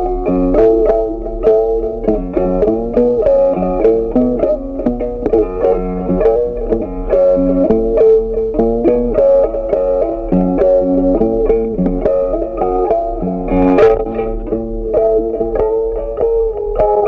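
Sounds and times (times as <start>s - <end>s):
guitar picking melody: 0.0s - 17.0s.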